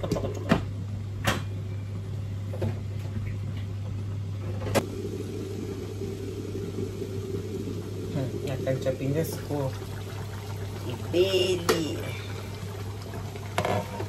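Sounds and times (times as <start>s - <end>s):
steady low hum: 0.8s - 14.0s.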